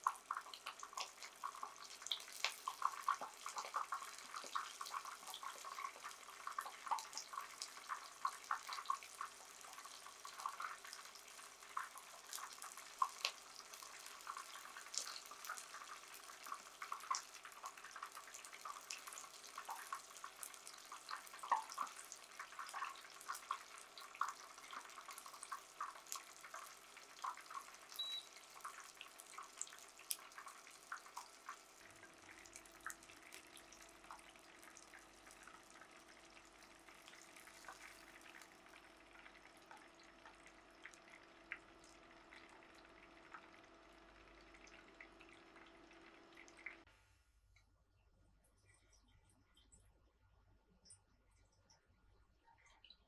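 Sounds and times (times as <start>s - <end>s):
hot oil sizzling and popping: 0.0s - 46.9s.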